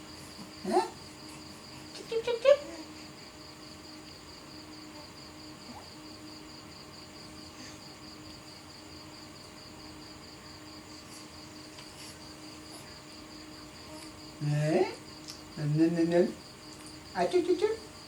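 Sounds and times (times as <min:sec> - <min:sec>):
faint low hum: 0:00.0 - 0:18.0
insect chirping: 0:00.0 - 0:18.0.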